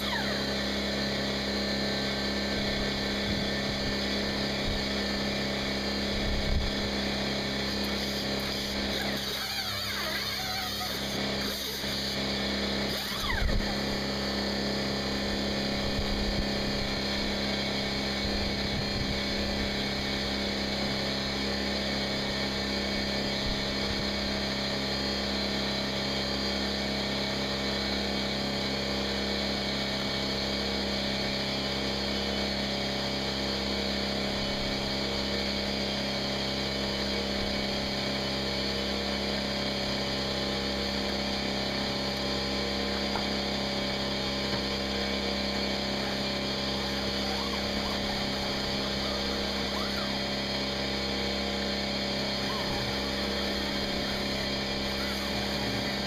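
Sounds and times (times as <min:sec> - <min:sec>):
motor droning: 0:00.0 - 0:56.0.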